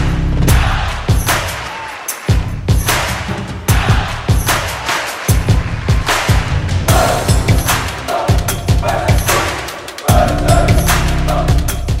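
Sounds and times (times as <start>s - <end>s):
heavy kick drum: 0.0s - 1.6s, 2.3s - 12.0s.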